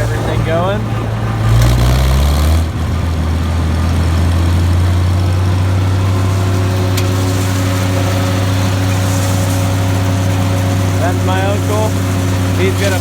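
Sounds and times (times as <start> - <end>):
higher machine hum: 0.0 - 13.0
tractor engine under load: 0.0 - 13.0.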